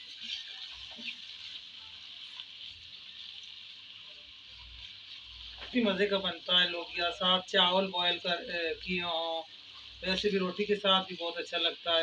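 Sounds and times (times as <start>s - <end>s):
spatula stirring in wok: 0.0s - 11.8s
onions sizzling in hot oil: 0.0s - 12.0s.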